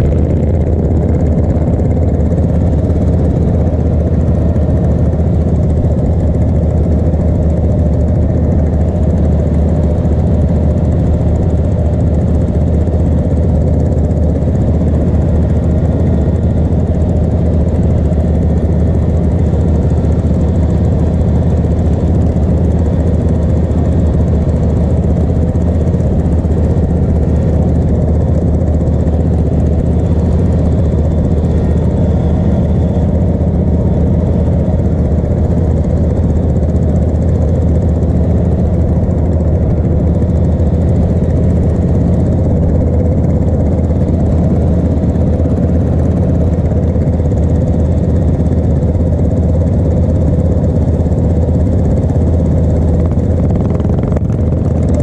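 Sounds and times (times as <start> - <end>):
lawn mower engine idling: 0.0 - 55.0.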